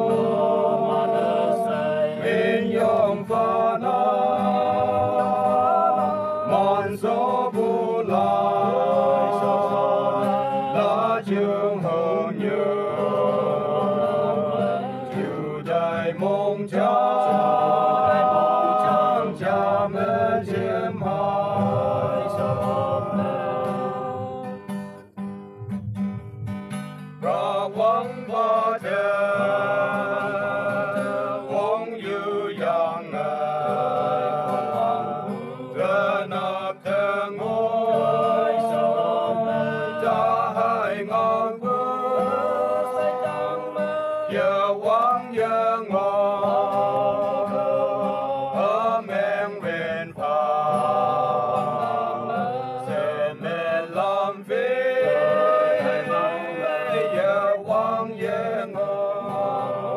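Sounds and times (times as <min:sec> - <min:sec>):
men singing a hymn: 0:00.0 - 0:24.8, 0:27.2 - 0:59.9
acoustic guitar: 0:00.0 - 0:59.9.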